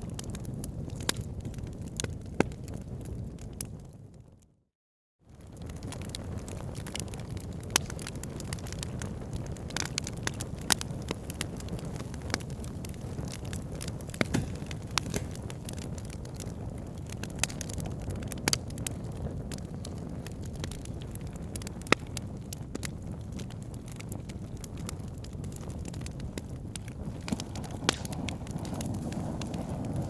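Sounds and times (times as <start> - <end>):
fire crackling and popping: 0.0 - 4.4, 5.3 - 30.0
low rumble of flame: 0.0 - 4.5, 5.3 - 30.0.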